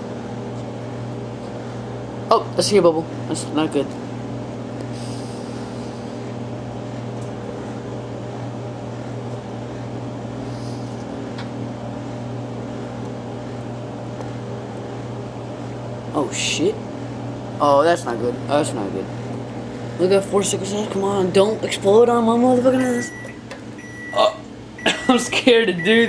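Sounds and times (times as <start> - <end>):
microwave fan noise: 0.0 - 26.0
microwave oven humming: 0.0 - 26.0.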